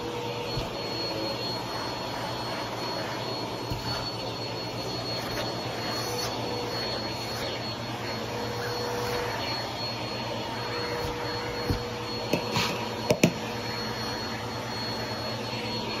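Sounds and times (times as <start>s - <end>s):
vacuum cleaner whining: 0.0s - 16.0s.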